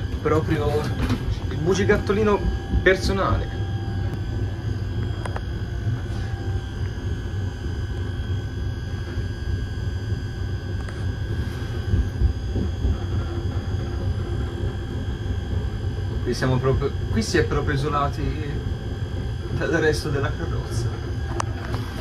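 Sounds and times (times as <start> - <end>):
faint steady hum: 0.0 - 22.0
train coach rumbling: 0.0 - 22.0.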